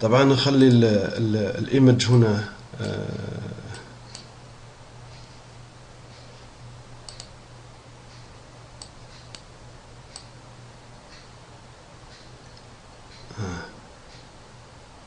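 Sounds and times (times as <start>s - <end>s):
steady low hum and hiss: 0.0s - 15.0s.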